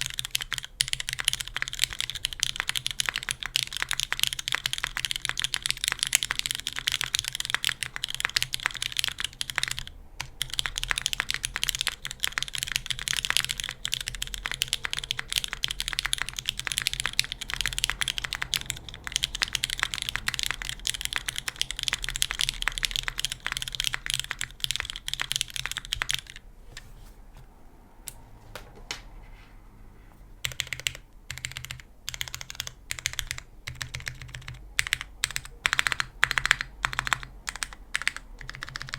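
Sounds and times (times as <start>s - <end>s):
mechanical keyboard typing: 0.0s - 26.4s, 30.4s - 38.9s.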